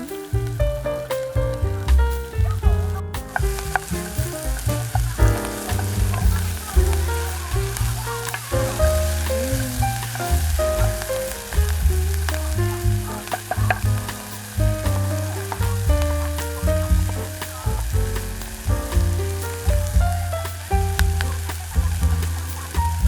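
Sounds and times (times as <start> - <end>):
background music with bass line: 0.0 - 23.0
food sizzling in a pan: 0.0 - 23.0.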